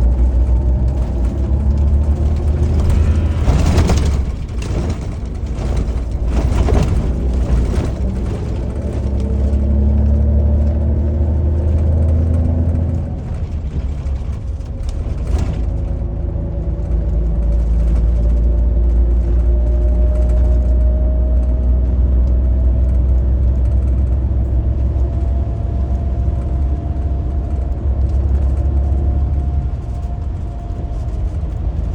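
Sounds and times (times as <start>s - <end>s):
bus engine humming: 0.0s - 31.9s
knocks and rattles: 0.0s - 31.9s.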